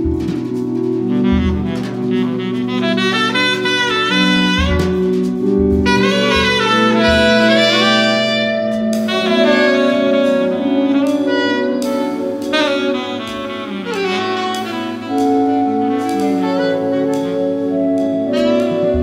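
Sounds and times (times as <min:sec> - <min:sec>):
electric guitar: 0:00.0 - 0:19.0
saxophones playing: 0:00.0 - 0:19.0.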